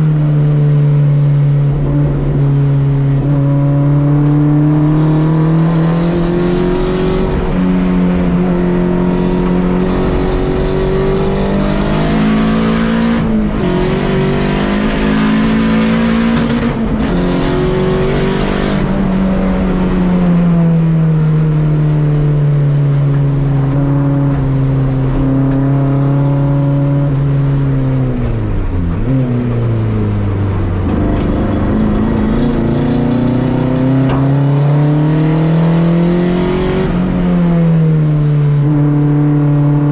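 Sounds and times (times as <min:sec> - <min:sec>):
race car engine revving: 0:00.0 - 0:20.7, 0:23.1 - 0:39.9.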